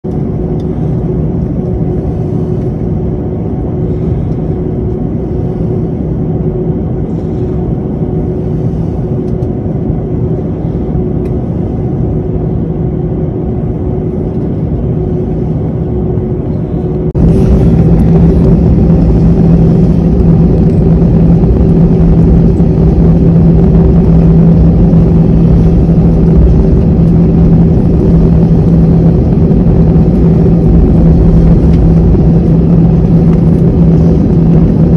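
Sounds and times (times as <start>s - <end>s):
jet engines humming: 0.0s - 34.9s.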